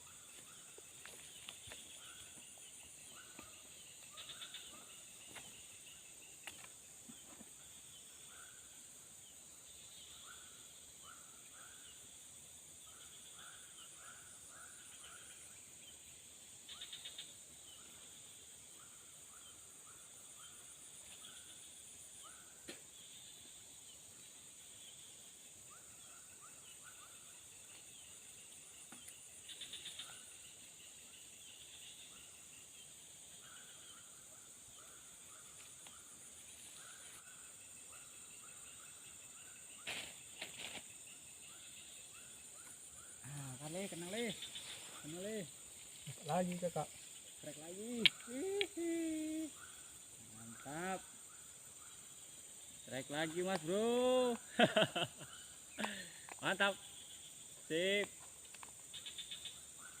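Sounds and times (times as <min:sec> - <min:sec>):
insect drone: 0:00.0 - 1:00.0.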